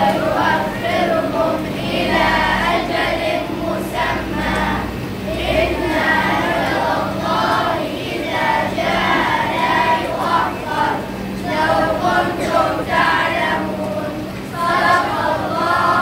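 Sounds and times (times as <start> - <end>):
children chanting in unison: 0.0 - 16.0.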